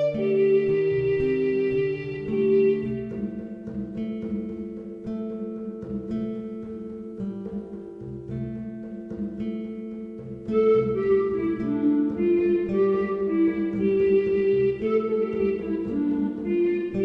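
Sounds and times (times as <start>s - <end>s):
plucked and bowed strings music: 0.0s - 17.0s.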